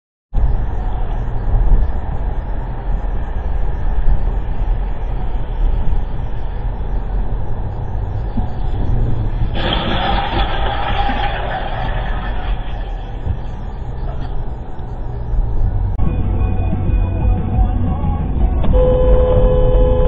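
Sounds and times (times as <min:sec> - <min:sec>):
car engine and tyre rumble: 0:00.3 - 0:20.0.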